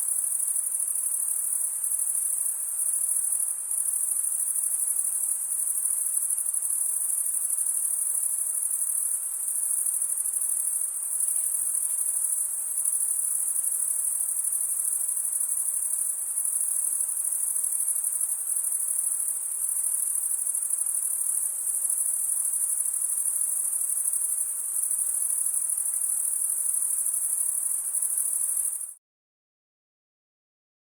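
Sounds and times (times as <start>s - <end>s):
crickets trilling: 0.0s - 28.9s
night forest hiss: 0.0s - 29.0s.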